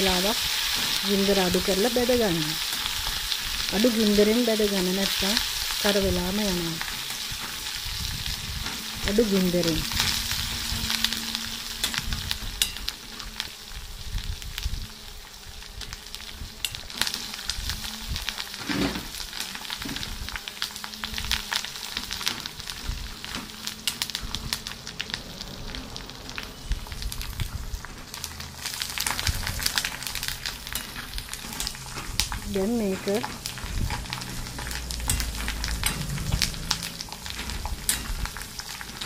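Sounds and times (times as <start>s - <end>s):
crackles and pops of frying: 0.0s - 39.0s
leaves sizzling in hot oil: 0.0s - 39.0s.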